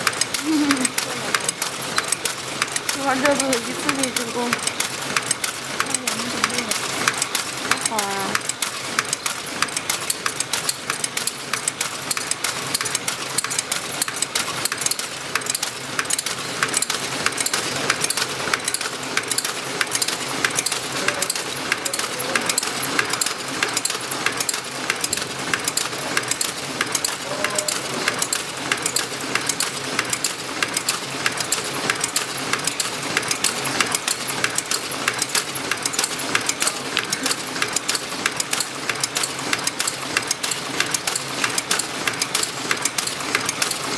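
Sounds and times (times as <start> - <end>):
packaging machine clicking: 0.0 - 43.9.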